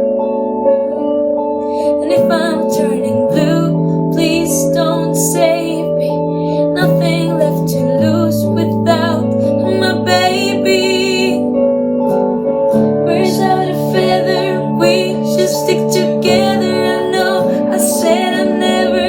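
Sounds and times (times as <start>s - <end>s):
guitar accompaniment: 0.0s - 19.0s
woman singing a pop ballad: 0.7s - 11.6s, 12.8s - 19.0s.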